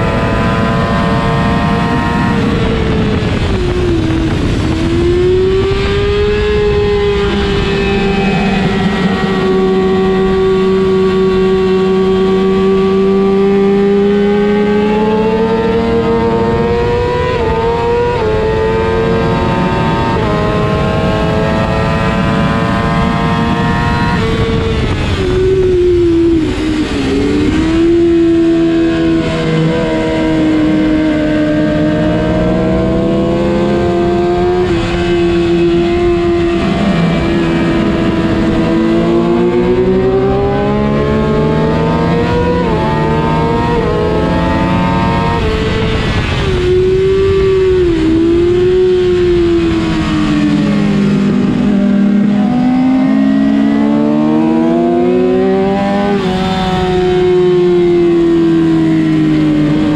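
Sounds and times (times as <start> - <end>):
motorcycle engine revving high: 0.0 - 59.9
wind rush: 0.0 - 59.9.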